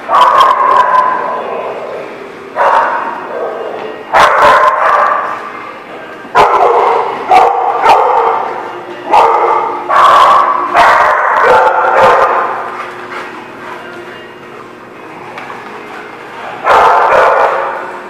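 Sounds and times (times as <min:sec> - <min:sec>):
dogs barking: 0:00.0 - 0:05.5, 0:06.3 - 0:13.6, 0:16.0 - 0:18.0.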